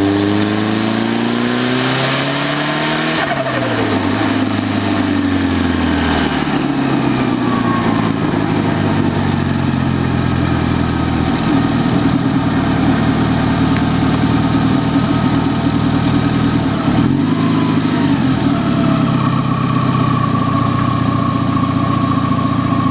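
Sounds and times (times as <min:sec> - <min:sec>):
car engine idling: 0:03.3 - 0:22.9.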